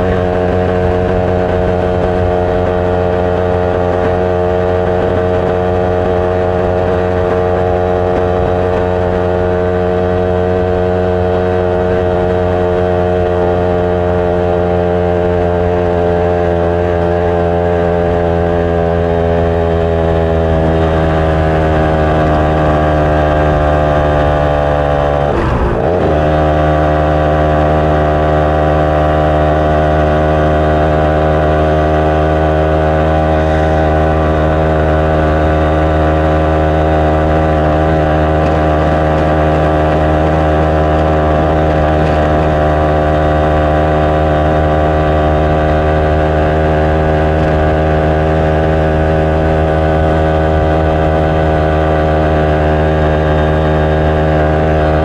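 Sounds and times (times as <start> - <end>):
two-stroke motorcycle engine running: 0.0 - 55.0.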